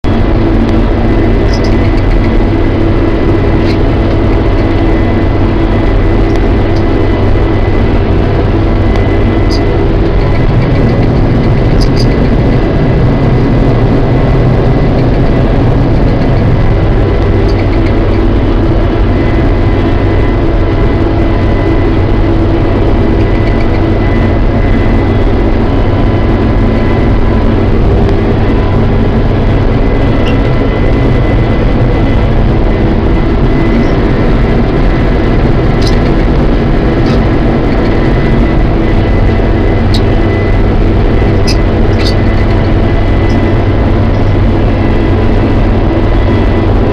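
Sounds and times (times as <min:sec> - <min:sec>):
combine harvester engine drone: 0:00.0 - 0:46.9
constant high whine: 0:00.0 - 0:46.9.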